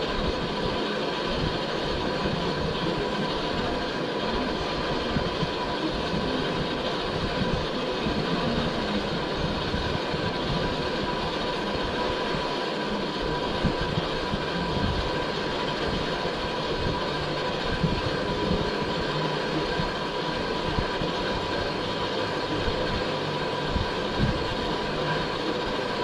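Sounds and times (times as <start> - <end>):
faint steady tones: 0.0 - 26.0.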